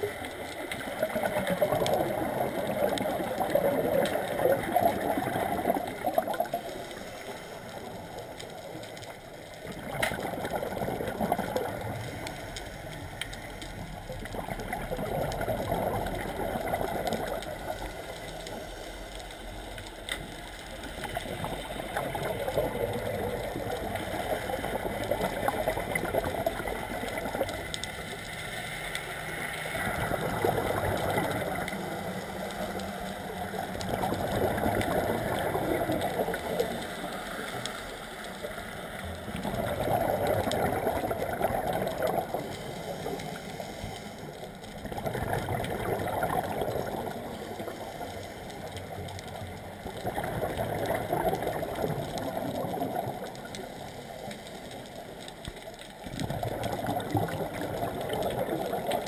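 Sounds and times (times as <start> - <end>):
bubbles gurgling underwater: 0.0 - 18.8, 20.6 - 28.2, 29.0 - 43.6, 44.3 - 59.0.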